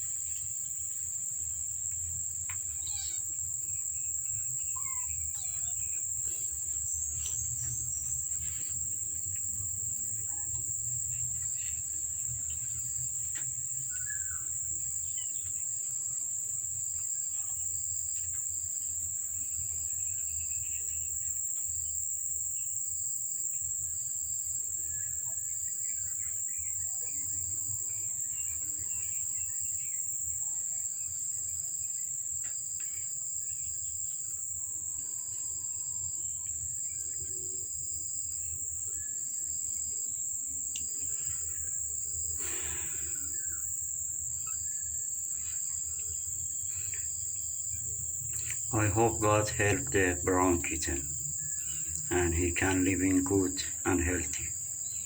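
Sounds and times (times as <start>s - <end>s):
crickets droning: 0.0s - 55.0s
insect chirping in pulses: 0.0s - 55.0s.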